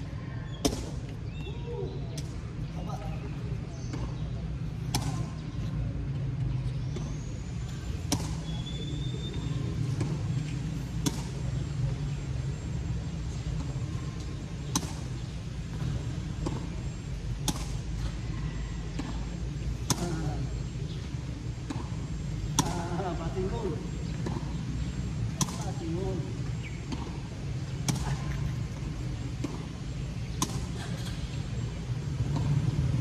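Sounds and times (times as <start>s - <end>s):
tennis balls struck by rackets: 0.5s - 7.2s, 7.9s - 33.0s.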